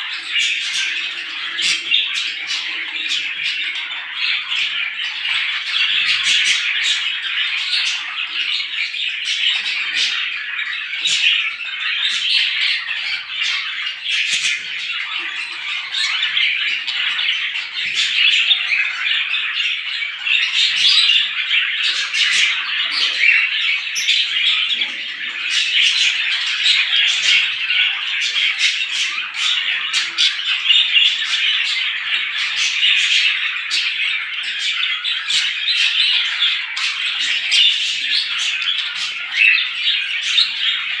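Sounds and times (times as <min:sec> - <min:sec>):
flock of small birds chirping: 0:00.0 - 0:41.0.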